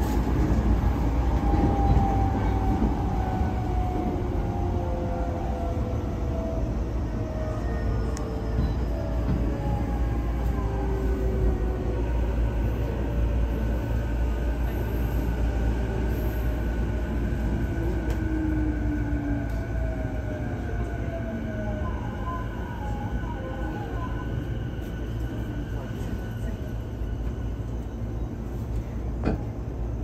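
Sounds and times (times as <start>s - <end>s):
wheels rumbling on rail: 0.0s - 30.0s.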